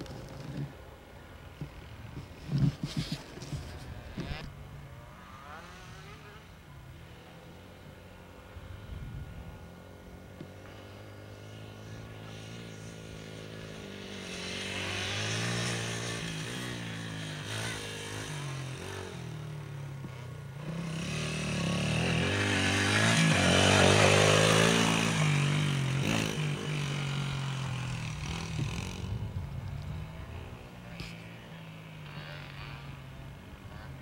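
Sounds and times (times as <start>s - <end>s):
dirt bike engine revving: 2.6s - 8.1s, 10.5s - 34.0s.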